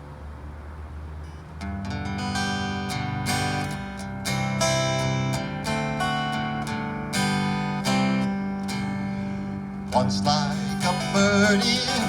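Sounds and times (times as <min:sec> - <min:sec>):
acoustic guitar strumming: 0:01.2 - 0:12.0.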